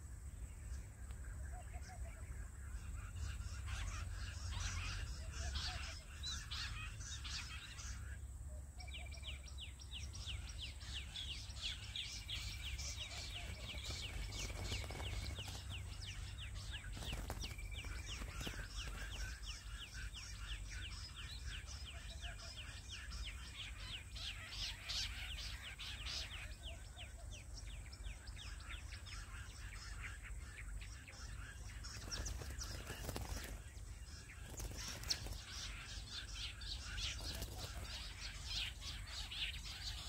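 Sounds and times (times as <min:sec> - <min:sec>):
quail chirping call: 0:01.1 - 0:40.0.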